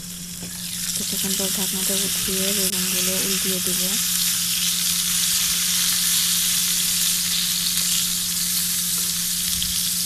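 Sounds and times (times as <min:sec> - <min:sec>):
eggplant sizzling in oil: 0:00.0 - 0:10.0.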